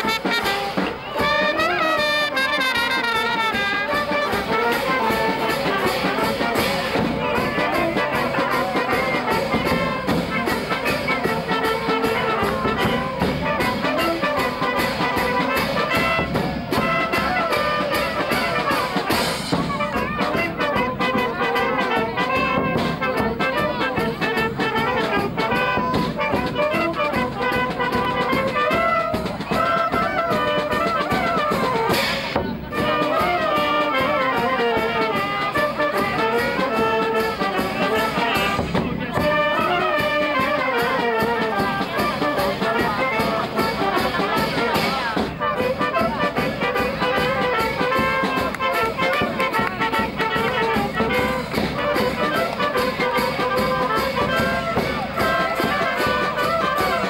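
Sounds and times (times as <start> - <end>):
brass band music: 0.0 - 57.0.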